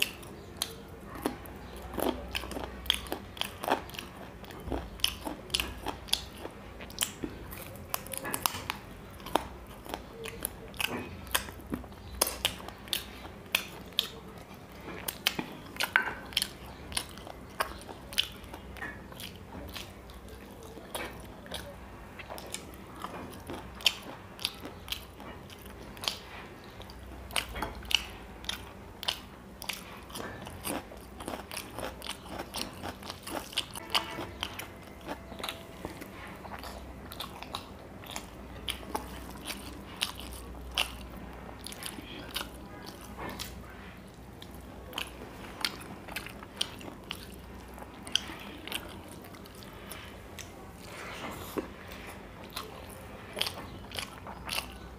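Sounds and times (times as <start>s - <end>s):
man chewing food: 0.0s - 54.9s.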